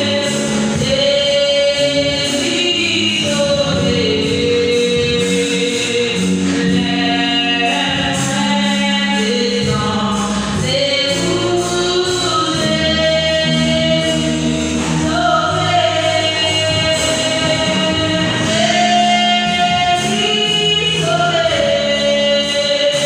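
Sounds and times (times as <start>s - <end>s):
choir singing gospel: 0.0s - 23.0s.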